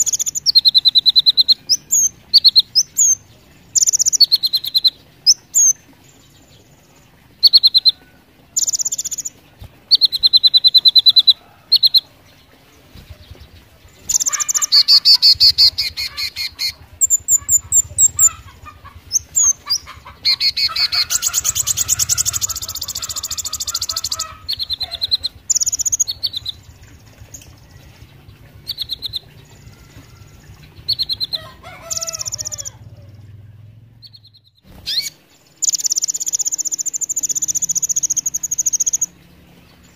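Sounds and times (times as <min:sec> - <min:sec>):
bird singing high ticking trills: 0:00.0 - 0:39.9.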